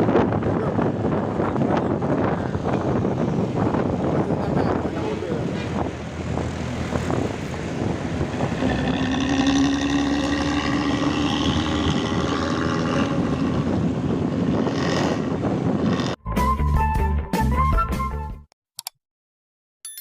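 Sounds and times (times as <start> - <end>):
bus diesel engine growling: 0.0 - 16.2.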